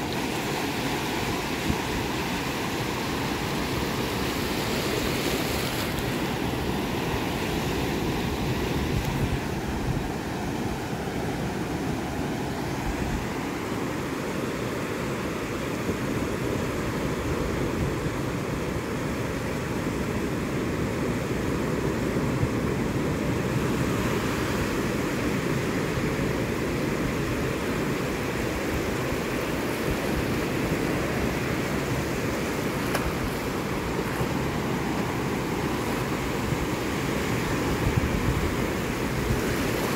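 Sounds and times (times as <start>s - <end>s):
ocean surf washing up beach: 0.0s - 39.9s
wind rumble on microphone: 0.1s - 13.9s, 15.8s - 39.9s.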